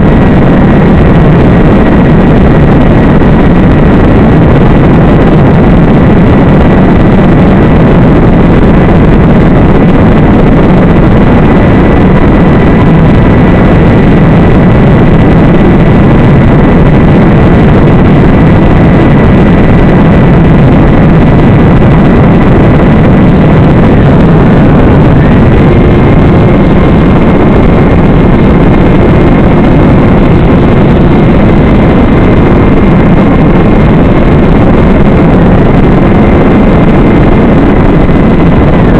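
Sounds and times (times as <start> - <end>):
distorted video link noise: 0.0 - 38.9
model aircraft propeller drone: 0.0 - 38.9
thin steady whine: 0.0 - 38.9.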